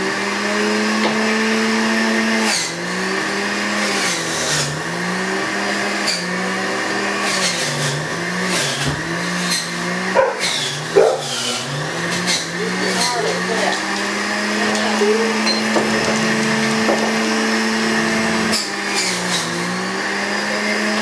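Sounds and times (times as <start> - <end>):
electric juicer motor humming: 0.0 - 21.0.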